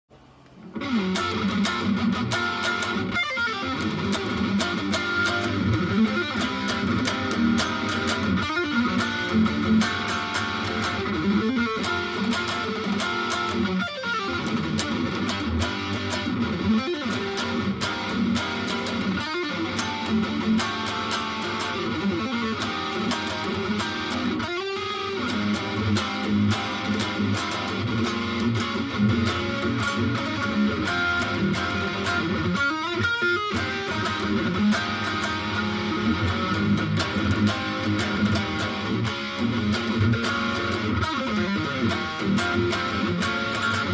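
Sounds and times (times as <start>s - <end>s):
electric guitar riff: 0.4s - 43.9s.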